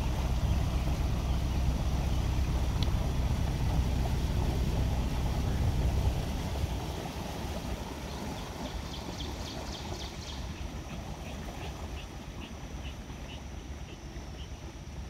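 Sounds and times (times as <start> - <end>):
boat rumble: 0.0 - 15.0.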